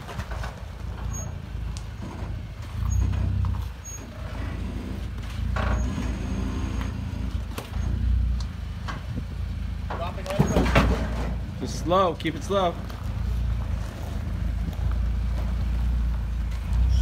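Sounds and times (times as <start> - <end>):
engine running at crawling speed: 0.0 - 17.0.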